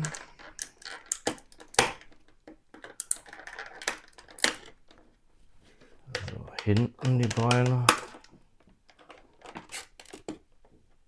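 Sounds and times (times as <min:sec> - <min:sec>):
plastic snaps and clicks: 0:00.0 - 0:04.8, 0:06.1 - 0:10.5.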